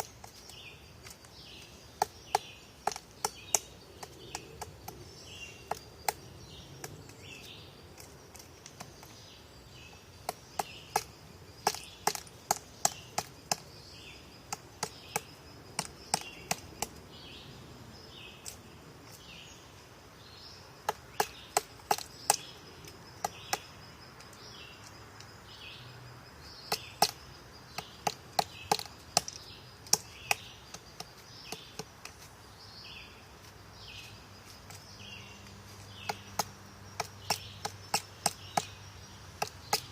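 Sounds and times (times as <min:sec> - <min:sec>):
woodpecker pecking at wood: 0:00.0 - 0:09.3, 0:10.0 - 0:17.0, 0:20.8 - 0:25.4, 0:26.4 - 0:32.4, 0:33.3 - 0:39.9.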